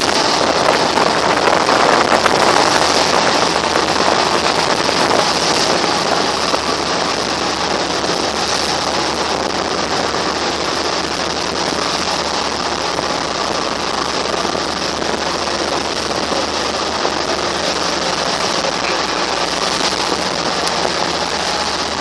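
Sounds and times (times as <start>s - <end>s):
boat engine running: 0.0s - 22.0s
rush of water and wind: 0.0s - 22.0s.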